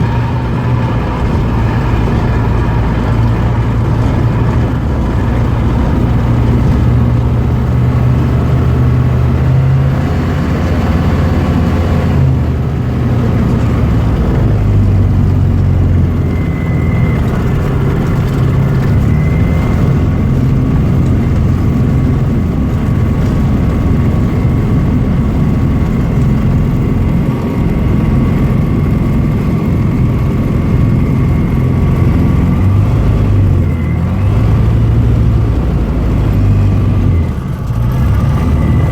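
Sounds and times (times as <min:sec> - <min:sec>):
light aircraft engine and propeller: 0:00.0 - 0:38.9.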